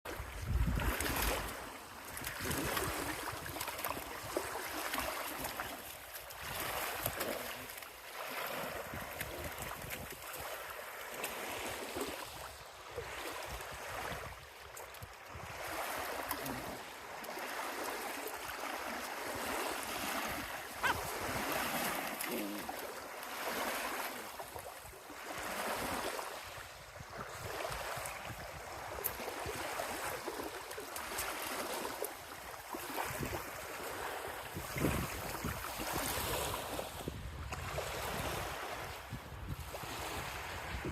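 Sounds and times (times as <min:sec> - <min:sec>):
small waves washing on shore: 0:00.1 - 0:40.9.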